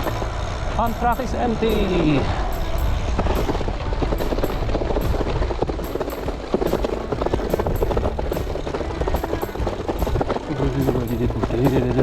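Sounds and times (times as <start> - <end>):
bicycle rattling and knocking: 0.0 - 12.0
wind buffeting microphone: 0.0 - 12.0.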